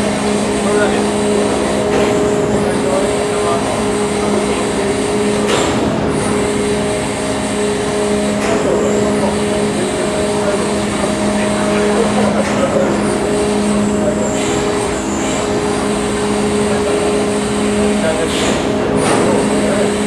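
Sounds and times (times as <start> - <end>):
steady engine drone: 0.0 - 20.0.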